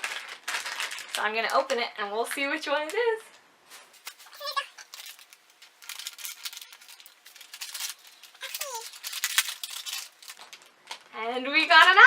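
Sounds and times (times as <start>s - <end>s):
plastic packaging crinkling: 0.0s - 2.0s, 3.7s - 12.0s.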